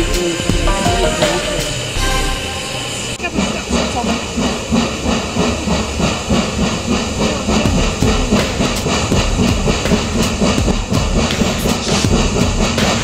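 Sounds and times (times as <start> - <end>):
steam hissing: 0.0 - 13.0
steam locomotive exhaust chuffs: 0.0 - 13.0.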